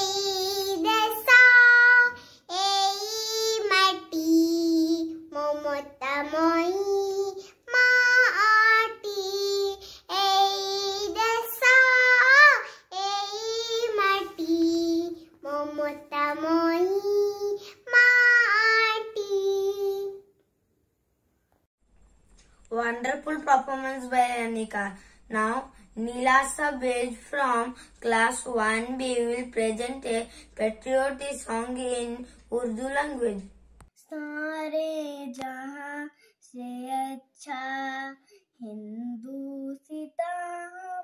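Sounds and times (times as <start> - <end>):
girl singing unaccompanied: 0.0 - 20.3, 25.4 - 41.0.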